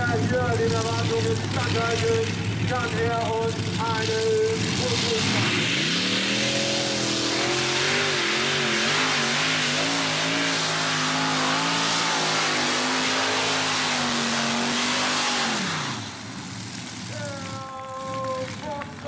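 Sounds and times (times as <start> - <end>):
pulling tractor at full throttle: 0.0 - 19.0.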